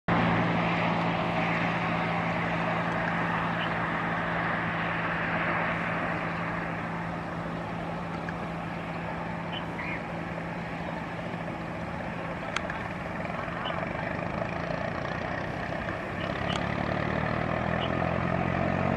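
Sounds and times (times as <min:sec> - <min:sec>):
engine drone: 0:00.0 - 0:18.9.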